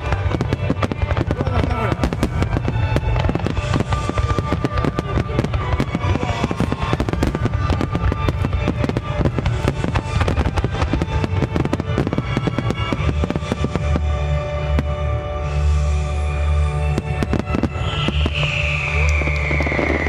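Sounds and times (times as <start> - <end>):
fireworks bangs and crackles: 0.0 - 20.0
music playing: 0.0 - 20.0.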